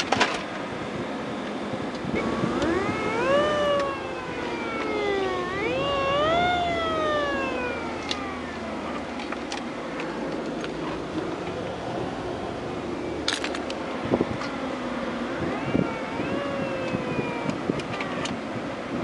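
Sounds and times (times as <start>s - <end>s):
alternator whine through speakers: 0.0s - 19.0s.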